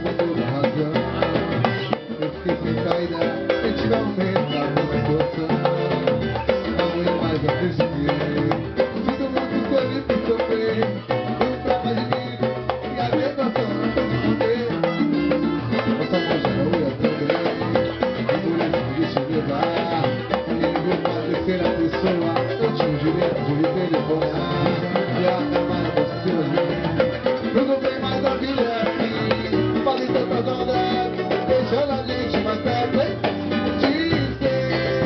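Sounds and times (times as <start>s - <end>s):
hand percussion samba rhythm: 0.0s - 35.0s
plucked strings: 0.0s - 35.0s.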